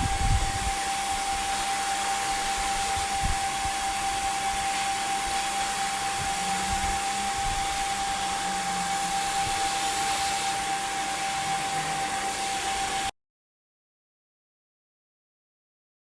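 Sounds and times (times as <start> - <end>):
machine rushing with high whine: 0.0 - 13.1.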